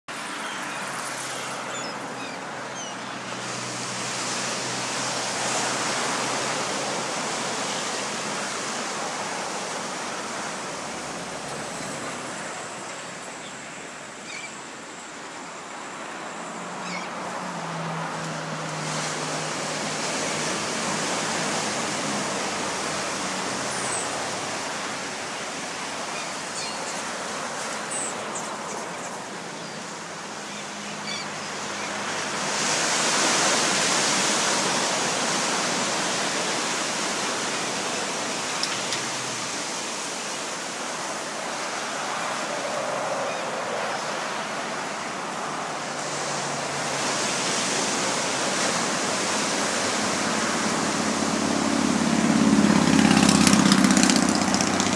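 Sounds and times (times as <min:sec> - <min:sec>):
ocean surf washing ashore: 0:00.1 - 0:54.9
waves breaking: 0:00.1 - 0:54.9.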